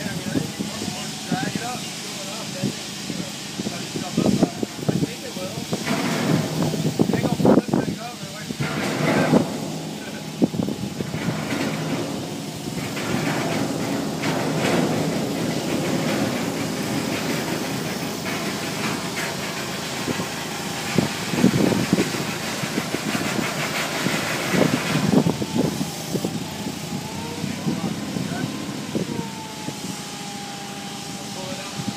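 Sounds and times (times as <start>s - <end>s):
forklift engine running: 0.0s - 31.9s.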